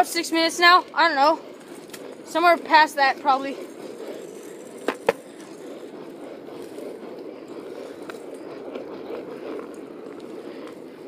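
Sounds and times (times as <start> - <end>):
small wheels rolling over pavement: 0.0 - 11.0.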